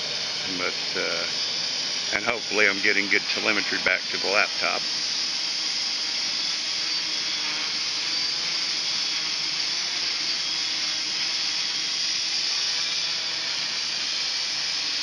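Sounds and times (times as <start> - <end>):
quadcopter hovering: 0.0 - 15.0.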